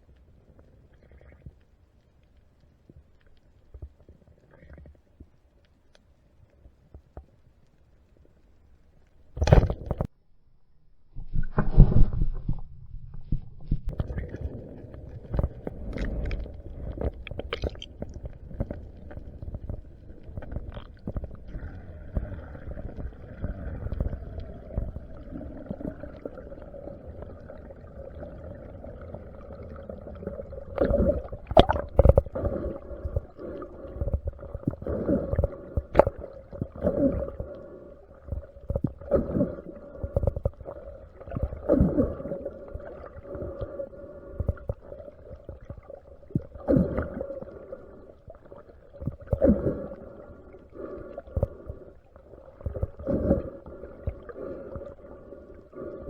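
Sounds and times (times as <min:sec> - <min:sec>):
underwater rumbling and gurgling: 0:00.0 - 0:10.1, 0:11.0 - 0:56.0.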